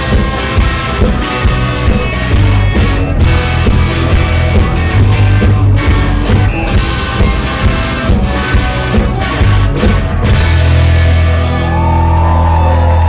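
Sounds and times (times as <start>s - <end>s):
drum beat: 0.0s - 11.5s
rock band playing: 0.0s - 13.0s.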